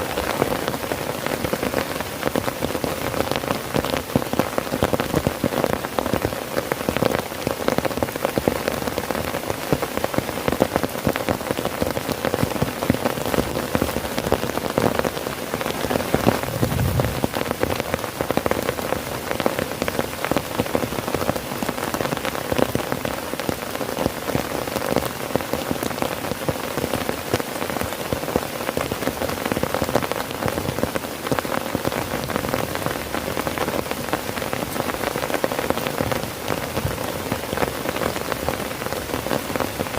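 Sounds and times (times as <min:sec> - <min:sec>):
heavy rain drumming on a tent: 0:00.0 - 0:39.9.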